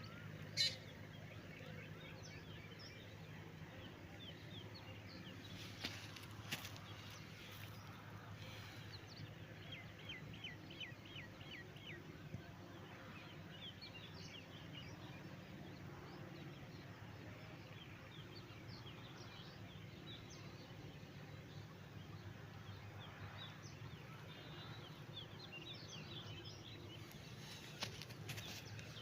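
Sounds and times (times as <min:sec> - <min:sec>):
small birds chirping: 0:00.0 - 0:12.0, 0:17.4 - 0:29.0.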